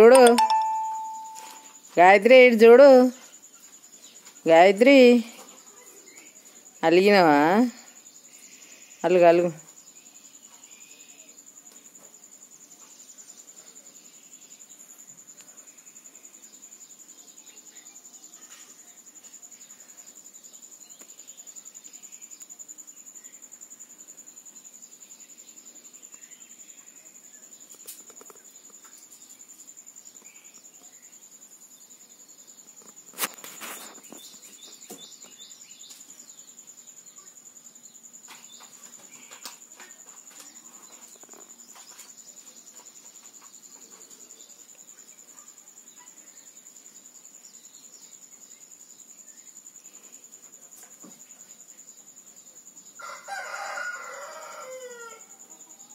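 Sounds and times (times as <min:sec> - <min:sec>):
insect trill: 0:00.0 - 0:55.9.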